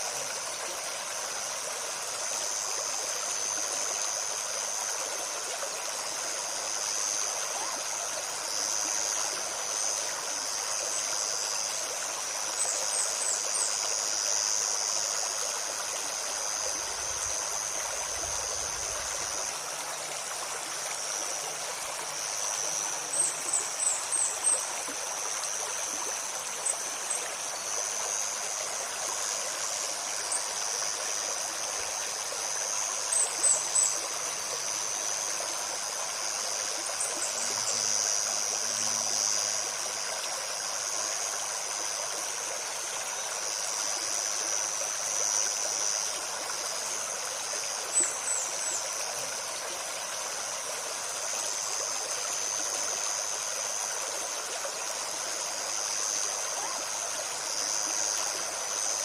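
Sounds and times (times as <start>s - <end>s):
high insect buzz: 0.0s - 59.0s
river babbling over stones: 0.0s - 59.0s.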